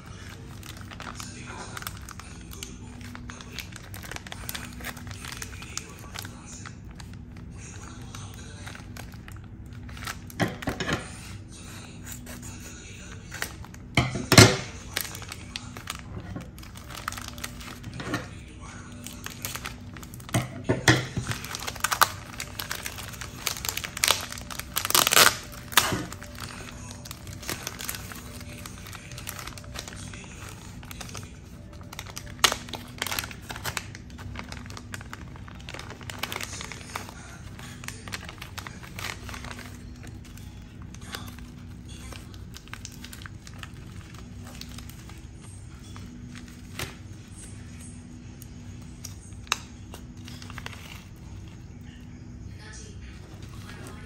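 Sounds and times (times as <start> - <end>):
plastic bag crinkling: 0.0 - 51.8
plastic tearing rustles: 0.0 - 51.8
soft background music: 0.0 - 54.0.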